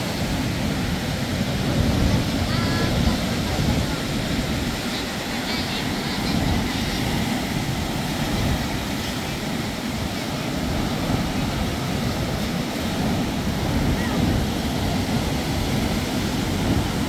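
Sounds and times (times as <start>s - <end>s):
sea surf breaking on shore: 0.0s - 17.0s
wind rumble on microphone: 0.0s - 17.0s.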